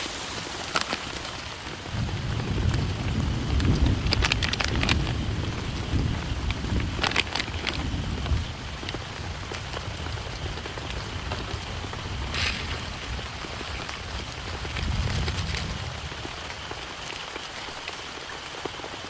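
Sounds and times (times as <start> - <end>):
heavy rain on a tent: 0.0 - 19.0.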